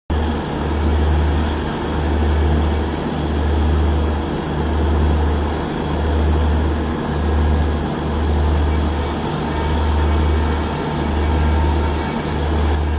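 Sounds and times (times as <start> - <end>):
diesel locomotive engine drone: 0.1 - 12.9.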